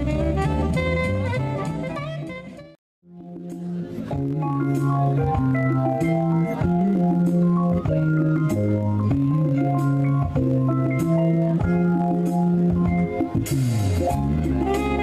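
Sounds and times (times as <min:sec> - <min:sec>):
jazz band slow held chords: 0:00.0 - 0:15.0.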